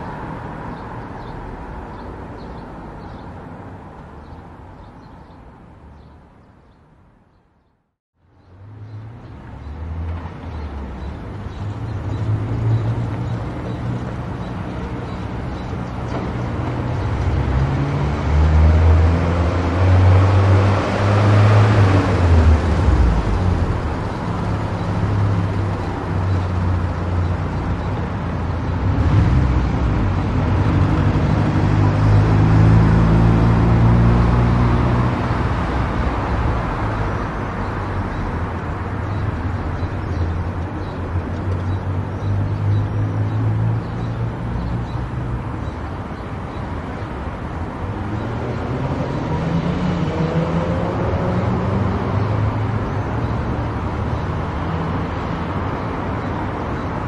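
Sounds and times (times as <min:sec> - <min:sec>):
tyre and road noise: 0:00.0 - 0:57.0.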